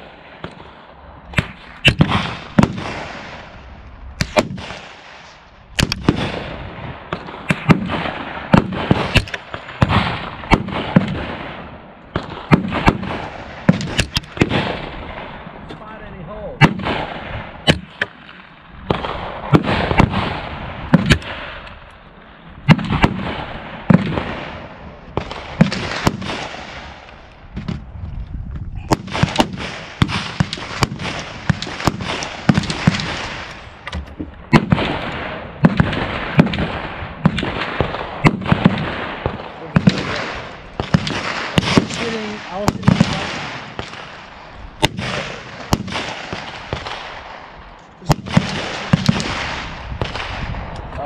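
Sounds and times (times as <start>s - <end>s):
gunshots echoing: 0.0s - 27.9s, 28.8s - 51.0s.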